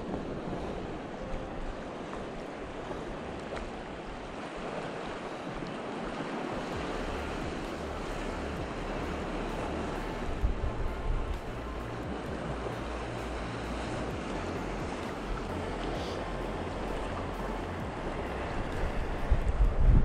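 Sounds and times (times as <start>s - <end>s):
small sea waves washing: 0.0s - 20.0s
steady wind: 0.0s - 20.0s
wind gusts buffeting microphone: 0.0s - 20.0s.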